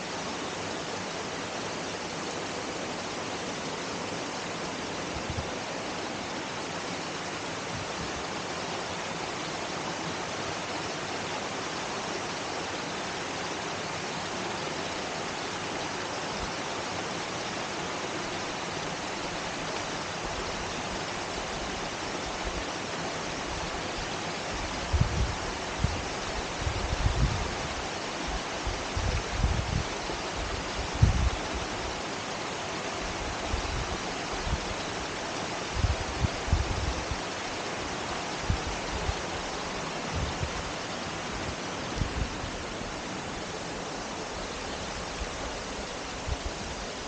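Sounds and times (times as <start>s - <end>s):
stream rushing over stones: 0.0s - 47.0s.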